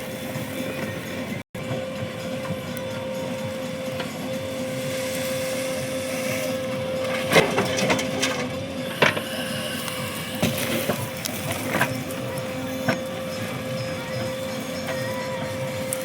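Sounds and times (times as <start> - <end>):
diesel engine running: 0.0 - 16.0
hydraulic whine: 0.0 - 16.0.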